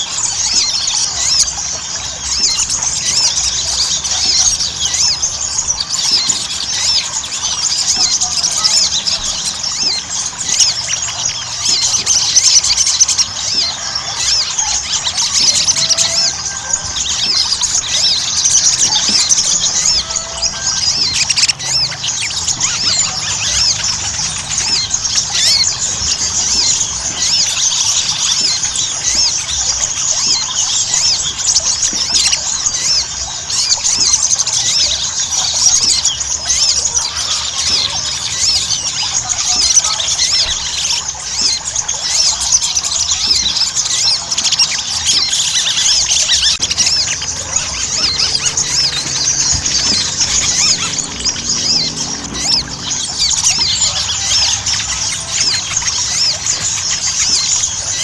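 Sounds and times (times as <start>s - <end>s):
birds twittering: 0.0s - 58.0s.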